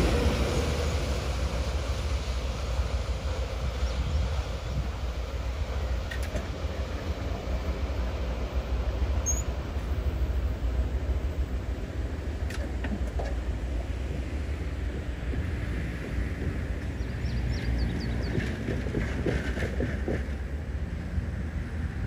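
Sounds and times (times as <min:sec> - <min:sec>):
freight train rolling on rails: 0:00.0 - 0:22.0.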